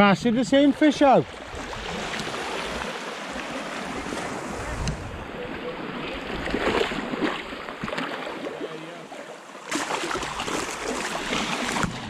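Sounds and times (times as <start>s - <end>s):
sea water washing against rocks: 0.8s - 12.0s.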